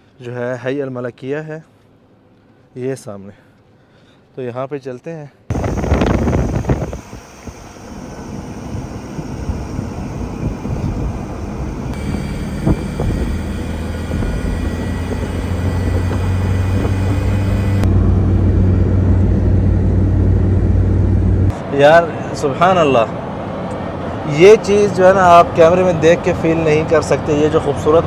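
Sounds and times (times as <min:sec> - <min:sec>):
car engine and tyre hum: 0:05.5 - 0:28.0.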